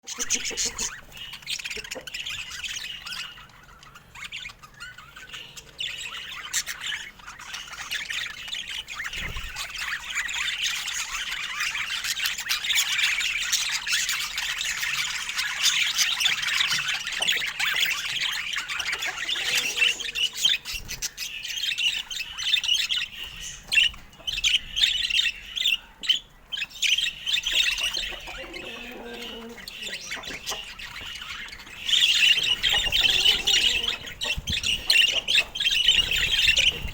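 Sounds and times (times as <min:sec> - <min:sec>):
budgerigar chatter: 0:00.0 - 0:36.9.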